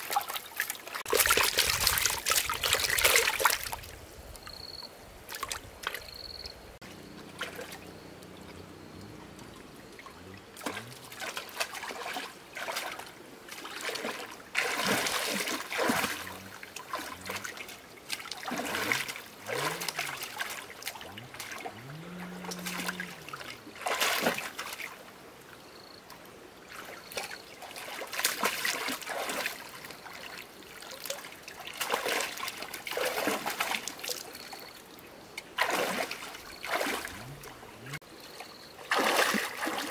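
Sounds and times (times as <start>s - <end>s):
water splashing and sloshing: 0.0s - 4.5s, 5.2s - 39.9s
shallow water trickling: 5.2s - 39.9s.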